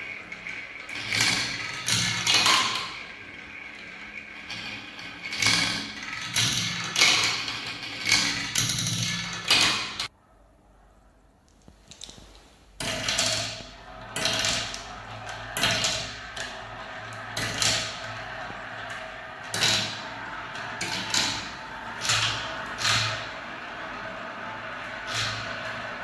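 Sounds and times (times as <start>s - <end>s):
marbles clacking on track: 0.0s - 10.1s, 12.8s - 26.0s
marbles rolling down track: 0.0s - 10.1s, 12.8s - 26.0s.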